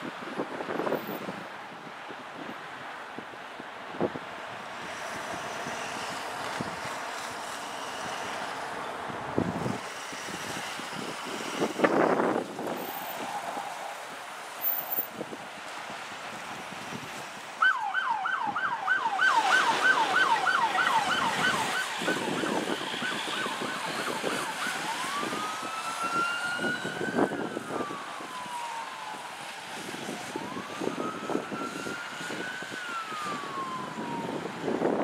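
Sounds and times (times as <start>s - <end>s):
fire truck siren: 3.5s - 15.3s, 15.9s - 35.0s.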